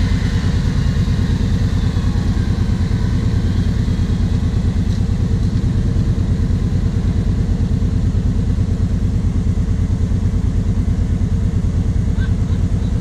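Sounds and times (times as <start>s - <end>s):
quad engine idling: 0.0s - 13.0s.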